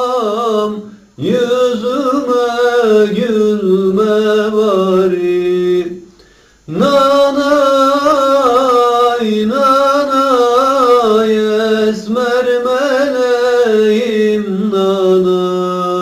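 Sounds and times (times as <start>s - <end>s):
man singing melismatic melody: 0.0s - 6.1s, 6.7s - 16.0s.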